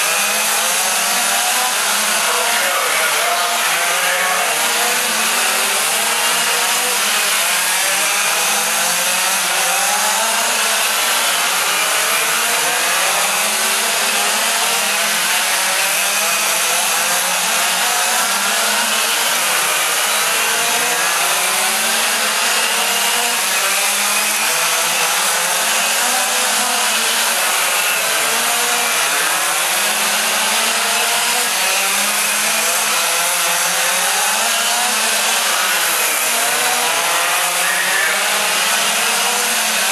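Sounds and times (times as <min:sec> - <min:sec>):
rc car engines buzzing: 0:00.0 - 0:39.9.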